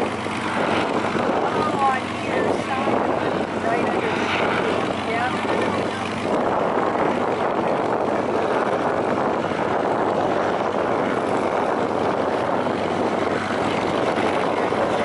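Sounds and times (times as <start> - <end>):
airship propeller engines running: 0.0 - 15.0.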